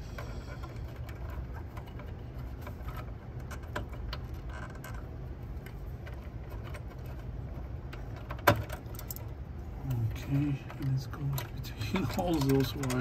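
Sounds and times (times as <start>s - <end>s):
low steady hum: 0.0s - 13.0s
small clicks and rattles: 0.0s - 13.0s.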